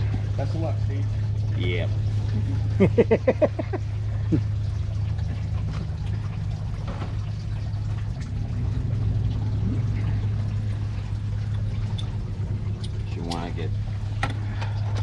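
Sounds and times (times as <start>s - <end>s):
coolant trickling: 0.0s - 15.0s
steady low hum: 0.0s - 15.0s.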